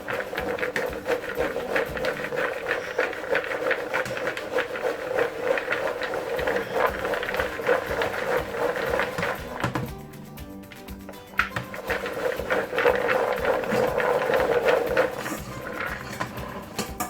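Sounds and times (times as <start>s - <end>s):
peanuts rattling in a bowl: 0.0s - 17.0s.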